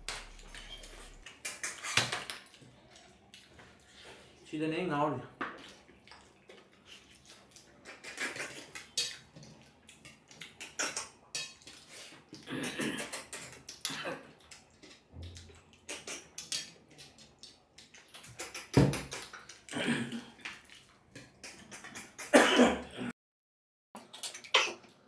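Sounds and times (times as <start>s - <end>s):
chewing and lip-smacking: 0.0s - 4.4s, 5.5s - 22.3s, 24.0s - 25.0s.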